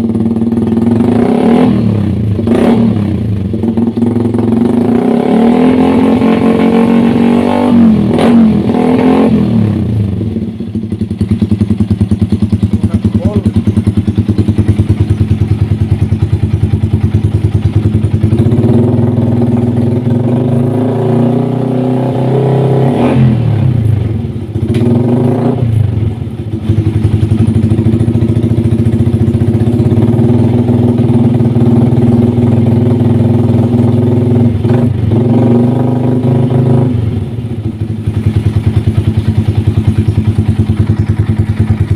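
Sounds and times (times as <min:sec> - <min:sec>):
motorcycle engine idling and revving: 0:00.0 - 0:41.9.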